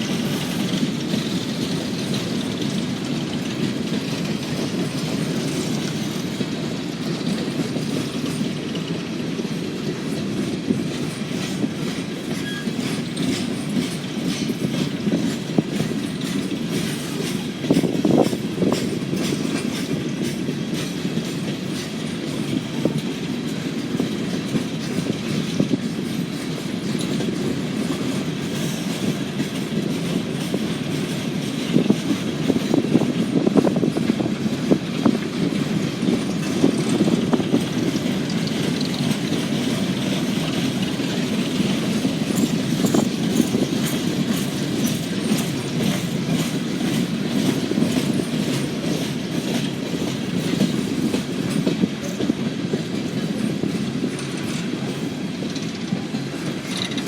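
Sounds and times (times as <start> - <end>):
train running noise: 0.0 - 57.0
train wheels clacking: 0.0 - 57.0.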